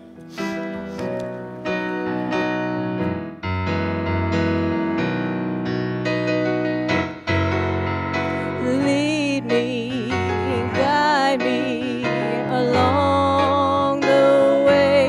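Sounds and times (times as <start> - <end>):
piano playing sustained chords: 0.0 - 15.0.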